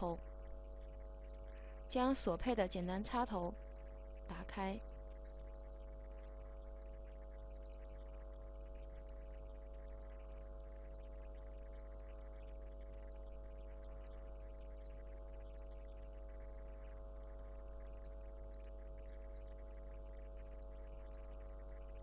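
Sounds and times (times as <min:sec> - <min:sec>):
low electrical mains hum: 0:00.0 - 0:22.0.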